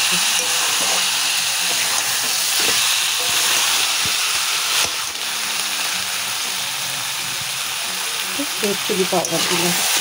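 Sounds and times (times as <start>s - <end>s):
meat and potatoes sizzling in oil: 0.0s - 10.0s.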